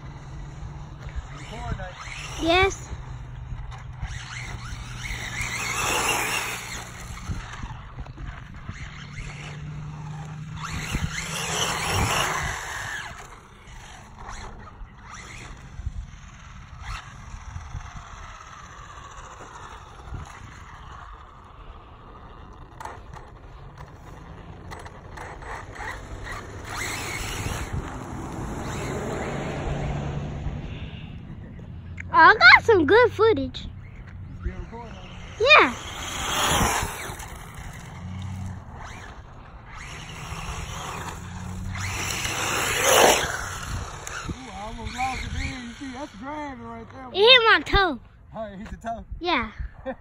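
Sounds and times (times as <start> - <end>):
rc car motor whine: 0.0 - 48.2.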